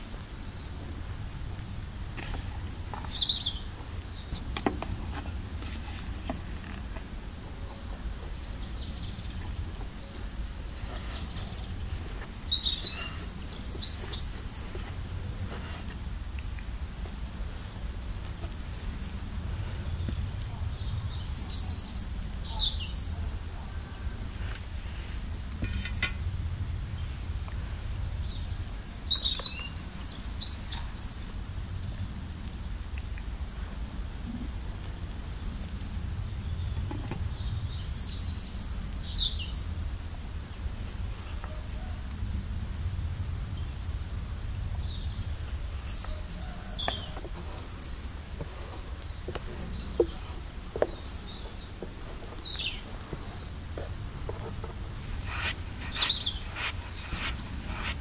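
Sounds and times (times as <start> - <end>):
low outdoor rumble: 0.0 - 30.3, 31.1 - 58.0
small birds chirping: 0.0 - 31.4, 32.8 - 34.0, 35.0 - 42.3, 43.1 - 58.0.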